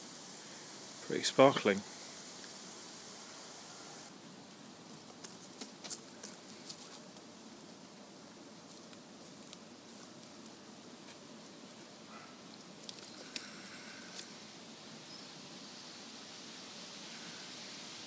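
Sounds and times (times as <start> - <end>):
faint background hiss: 0.0 - 18.0.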